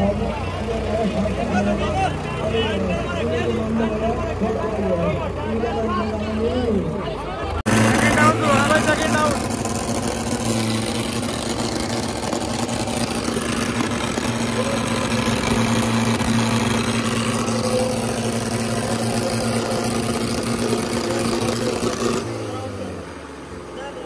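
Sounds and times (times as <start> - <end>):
second tractor engine running: 0.0 - 24.0
tractor diesel engine straining: 0.0 - 24.0.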